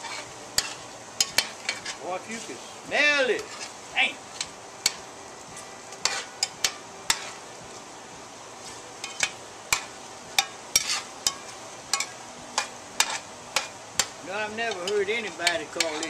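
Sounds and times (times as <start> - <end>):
food sizzling in grease: 0.0 - 16.0.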